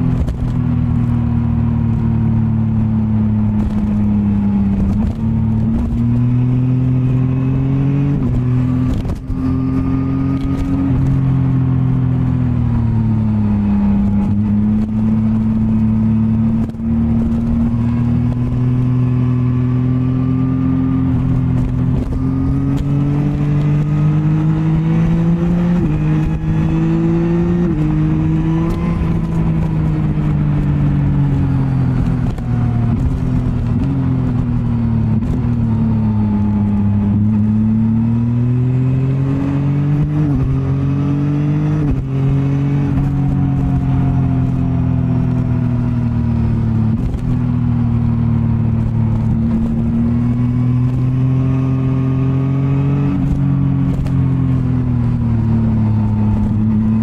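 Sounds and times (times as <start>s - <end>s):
motorcycle engine at riding speed: 0.0s - 57.0s.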